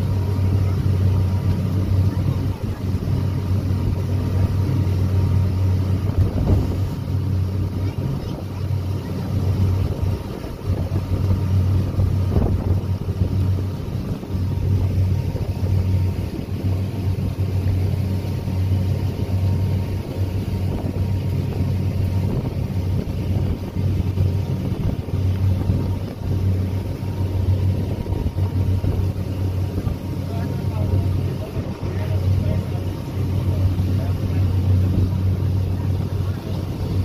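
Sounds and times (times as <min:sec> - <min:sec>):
boat engine humming: 0:00.0 - 0:37.0
water rushing past hull: 0:00.0 - 0:37.0
wind on microphone: 0:00.0 - 0:37.0.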